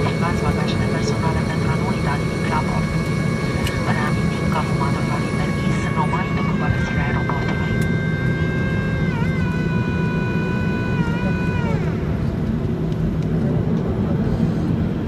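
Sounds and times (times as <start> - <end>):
aircraft cabin rumble: 0.0 - 15.0
jet engine whine: 0.0 - 15.0.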